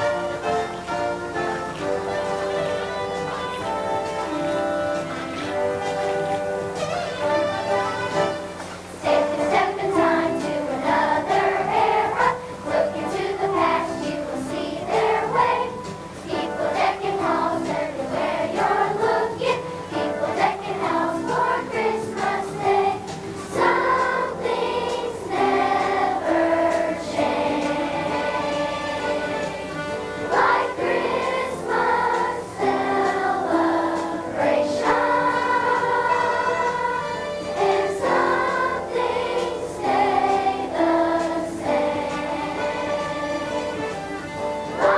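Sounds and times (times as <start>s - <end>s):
children's choir singing: 0.0s - 44.9s.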